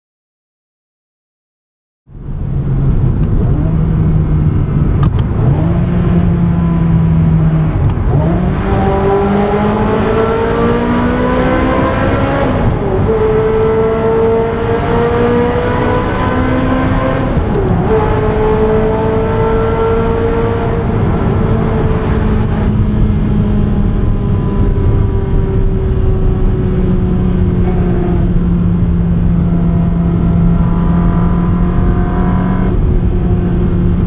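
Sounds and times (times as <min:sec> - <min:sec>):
sports car engine accelerating: 0:02.2 - 0:34.0.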